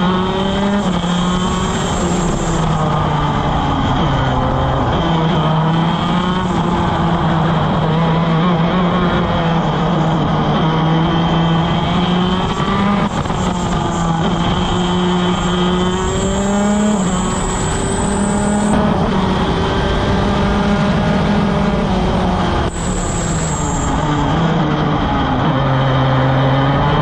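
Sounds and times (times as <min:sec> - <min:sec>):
kart engine at full throttle: 0:00.0 - 0:27.0.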